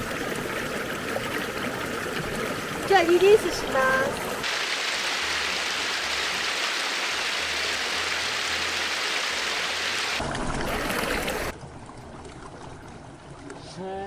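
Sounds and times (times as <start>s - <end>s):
river water rushing: 0.0s - 11.6s.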